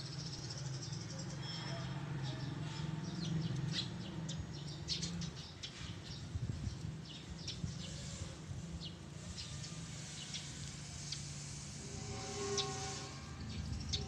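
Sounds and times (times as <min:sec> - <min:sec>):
small birds chirping: 0:00.0 - 0:11.3.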